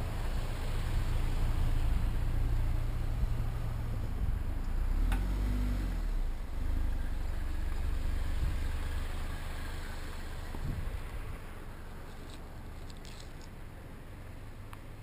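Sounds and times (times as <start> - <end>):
low rumble: 0.0 - 5.0, 6.1 - 14.6
cars passing: 0.0 - 15.0.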